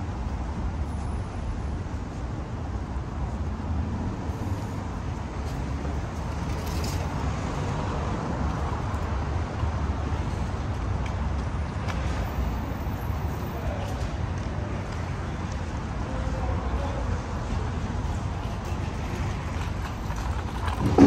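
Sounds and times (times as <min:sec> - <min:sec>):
hum of passing cars: 0:00.0 - 0:21.0
low traffic rumble: 0:00.0 - 0:21.0.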